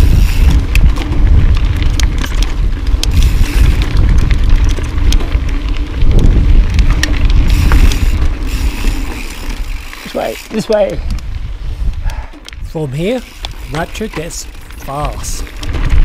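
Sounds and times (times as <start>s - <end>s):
bike chain and frame rattling: 0.0s - 16.0s
tyres clicking on gravel: 0.0s - 16.0s
wind rumble on microphone: 0.0s - 16.0s.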